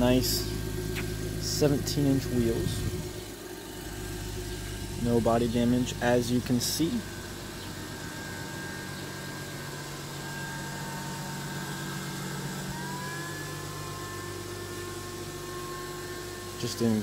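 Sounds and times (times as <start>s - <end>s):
car engine idling: 0.0s - 17.0s
thin whine: 0.0s - 17.0s.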